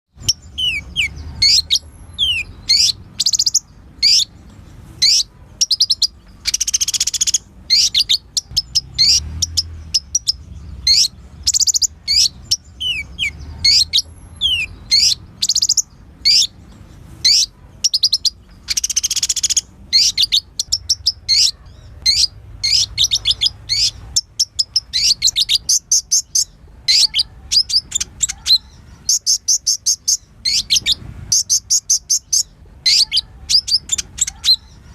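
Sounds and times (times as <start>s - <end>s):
sunbird singing: 0.1s - 34.9s.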